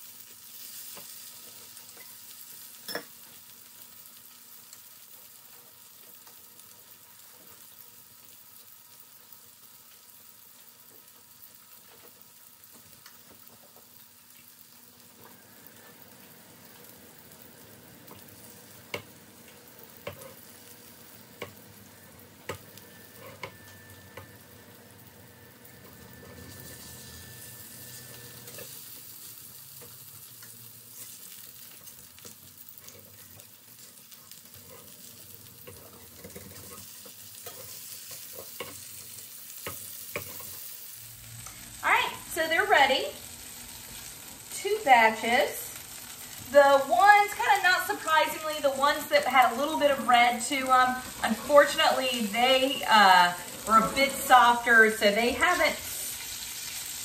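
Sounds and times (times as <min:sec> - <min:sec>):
tomato slices sizzling in oil: 0:00.0 - 0:57.0.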